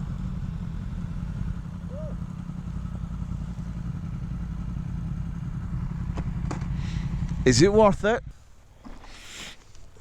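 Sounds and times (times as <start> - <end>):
motorcycle running: 0.0 - 8.6.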